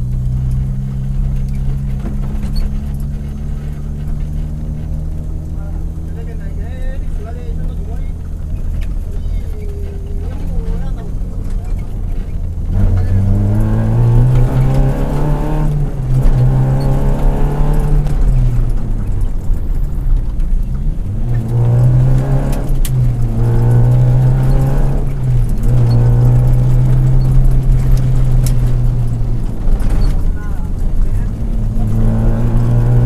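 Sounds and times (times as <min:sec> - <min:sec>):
rally car engine under load: 0:00.0 - 0:33.0.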